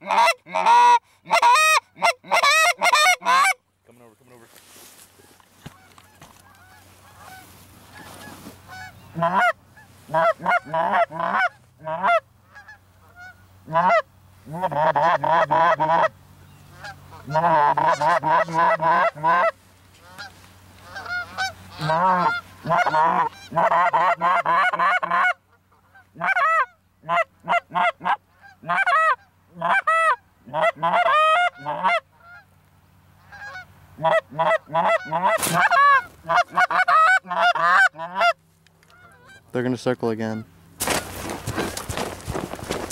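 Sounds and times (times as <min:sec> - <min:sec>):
geese honking: 0:00.0 - 0:03.6, 0:04.6 - 0:32.5, 0:33.2 - 0:42.9.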